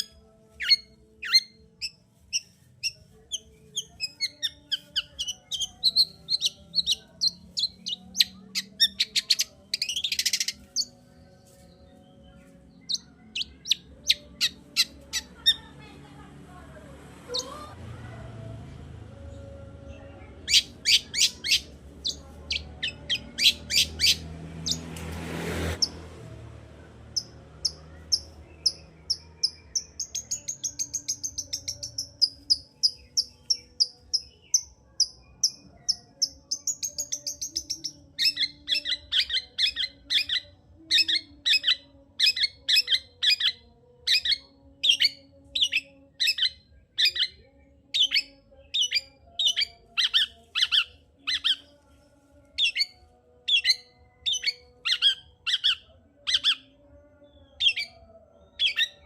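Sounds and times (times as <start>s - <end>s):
shrike singing: 0.0s - 16.0s, 18.8s - 25.0s, 25.6s - 59.0s.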